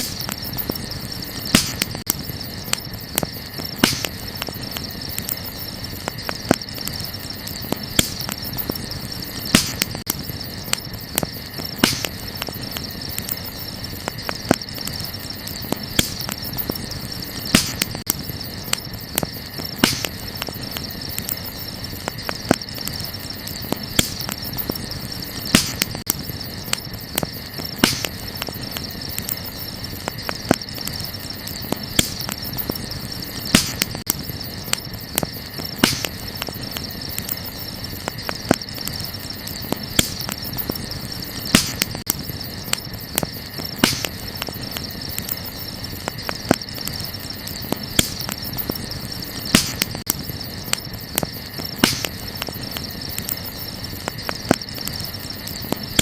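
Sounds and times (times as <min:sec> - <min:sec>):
campfire crackling and popping: 0:00.0 - 0:56.0
crickets chirring: 0:00.0 - 0:56.0.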